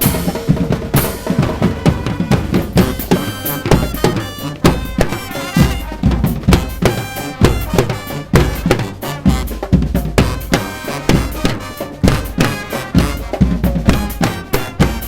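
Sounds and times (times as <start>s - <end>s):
brass street band playing: 0.0s - 15.0s.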